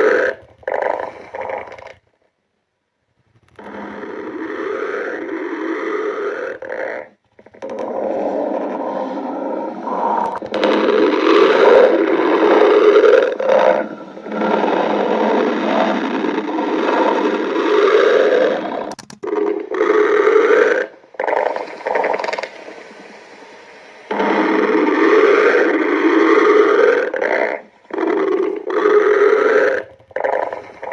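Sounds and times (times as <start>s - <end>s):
stomach growling: 0.0s - 2.4s, 3.2s - 23.1s, 24.0s - 30.9s.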